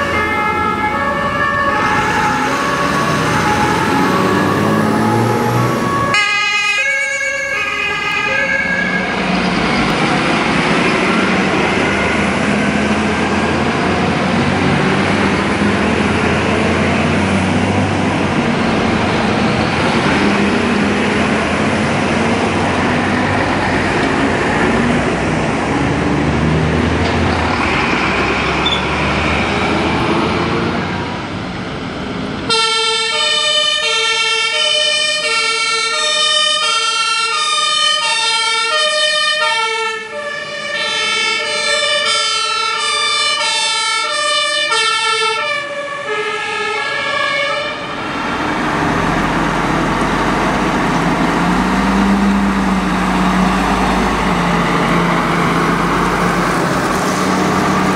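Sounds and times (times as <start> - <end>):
two-tone fire engine siren: 0.0 - 31.3, 32.3 - 57.9
diesel fire engines running: 0.0 - 57.9.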